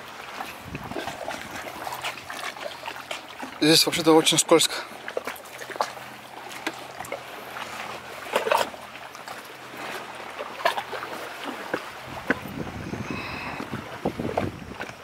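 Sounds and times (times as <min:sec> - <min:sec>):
water lapping against rocks: 0:00.0 - 0:15.0.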